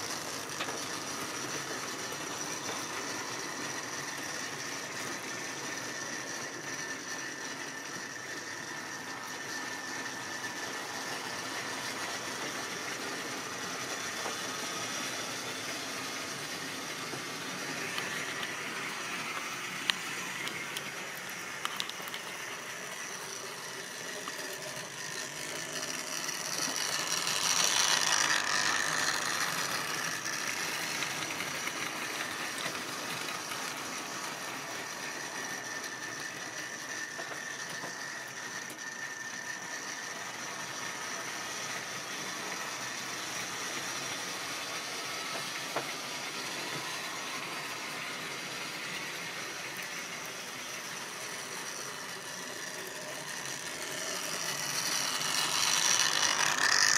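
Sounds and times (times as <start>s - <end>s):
model train whirring and whining: 0.0s - 56.9s.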